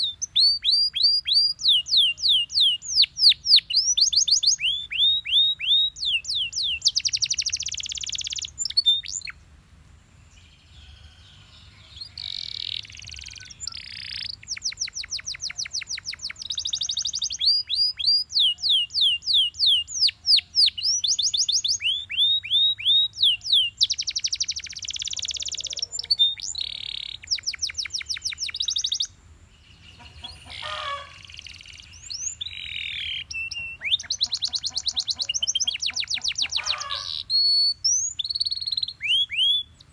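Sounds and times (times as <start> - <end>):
canary singing fast trills: 0.0 - 9.5, 10.4 - 39.9.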